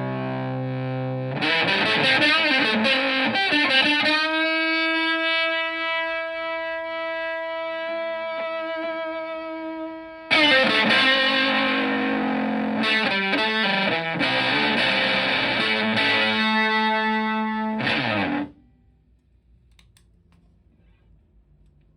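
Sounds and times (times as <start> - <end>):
fuzzy electric guitar chords: 0.0 - 18.6.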